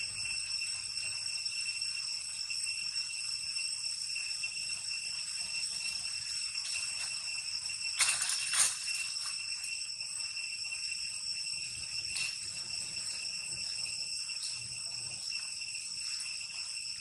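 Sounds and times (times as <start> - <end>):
forest ambience hiss: 0.0 - 17.0
insects shrilling: 0.0 - 17.0.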